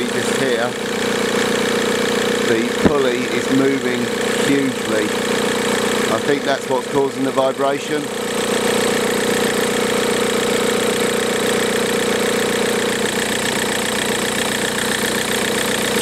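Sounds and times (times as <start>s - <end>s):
belt tensioner bearing noise: 0.0s - 16.0s
diesel engine idling: 0.0s - 16.0s.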